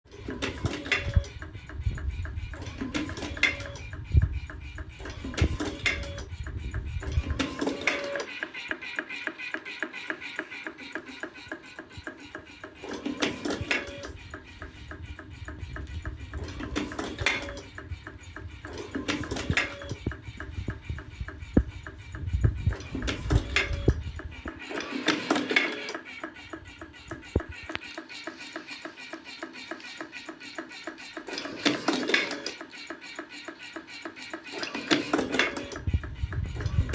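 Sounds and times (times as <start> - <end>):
machine mechanism ticking: 0.1 - 36.9.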